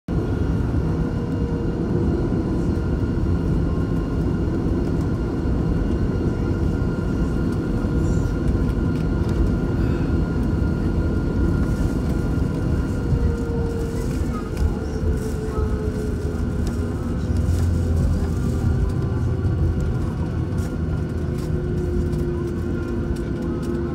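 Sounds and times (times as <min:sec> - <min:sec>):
faint steady whines: 0:00.1 - 0:23.9
jet engines rumbling at low power: 0:00.1 - 0:23.9.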